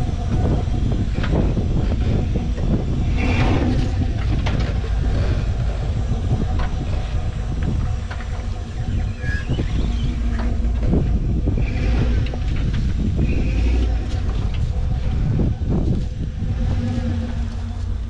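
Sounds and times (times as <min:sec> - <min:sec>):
chassis and tires knocking: 0:00.0 - 0:18.0
engine running low: 0:00.0 - 0:18.0.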